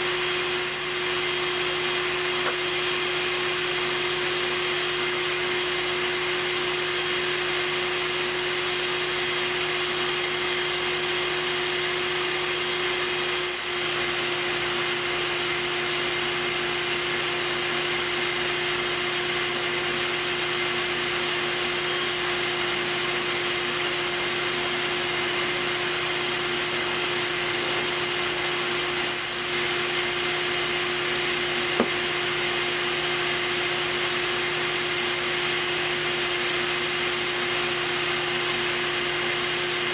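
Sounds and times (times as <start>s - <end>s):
portable generator running: 0.0s - 39.9s
vacuum humming and hissing: 0.0s - 39.9s.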